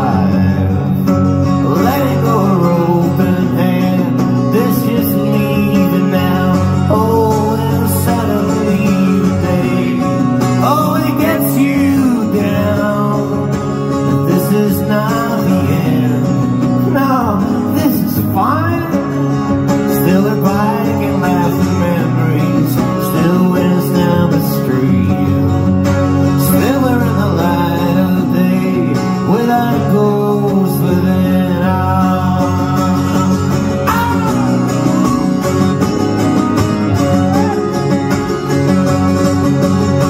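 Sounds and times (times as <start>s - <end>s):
acoustic guitar with sliding notes: 0.0s - 40.0s.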